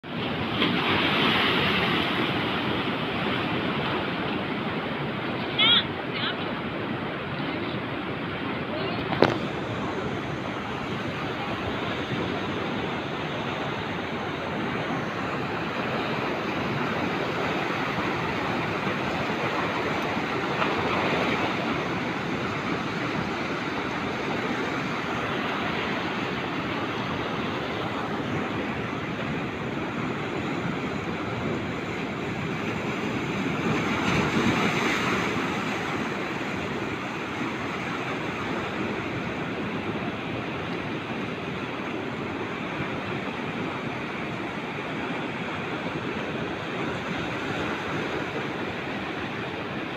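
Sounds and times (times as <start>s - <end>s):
surf breaking over rocks: 0.1s - 6.3s, 8.2s - 49.9s.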